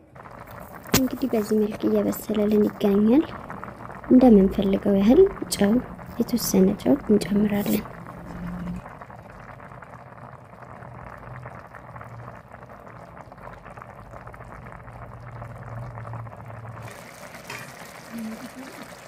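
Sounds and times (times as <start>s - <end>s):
pot boiling and bubbling: 0.0s - 19.0s.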